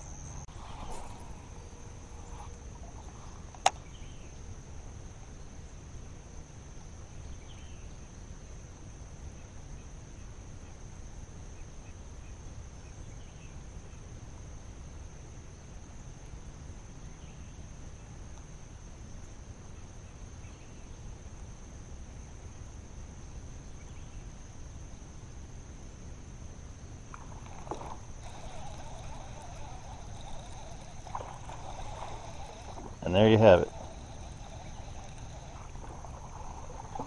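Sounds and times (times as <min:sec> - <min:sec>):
insects chirring: 0:00.0 - 0:10.9, 0:11.6 - 0:37.0
faint low background noise: 0:00.0 - 0:37.0.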